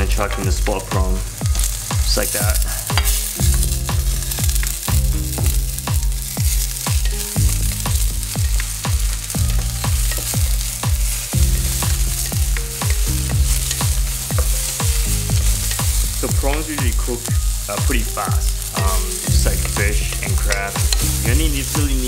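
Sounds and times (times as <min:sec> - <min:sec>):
background music with steady beat: 0:00.0 - 0:22.0
prawns sizzling in a pan: 0:00.0 - 0:22.0
wooden spoon stirring: 0:00.2 - 0:22.0.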